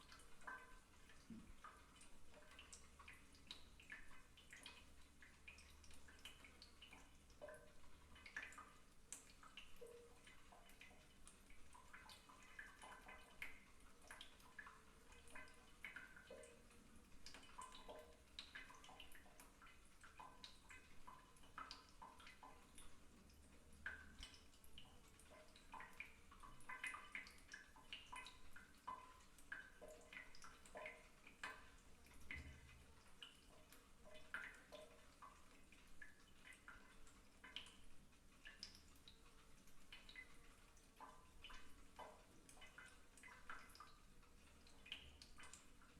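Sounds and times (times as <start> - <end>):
water dripping into bathwater: 0.0 - 45.9.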